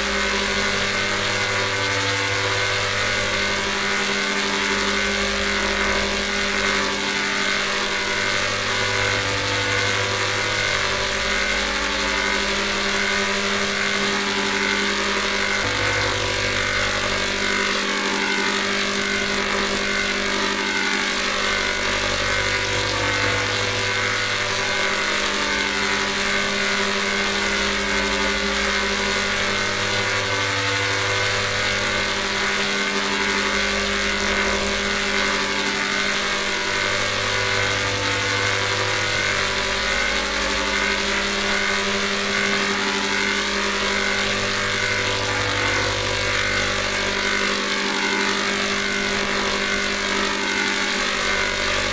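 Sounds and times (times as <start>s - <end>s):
drone of held tones: 0.0s - 51.9s
low hum: 0.0s - 51.9s.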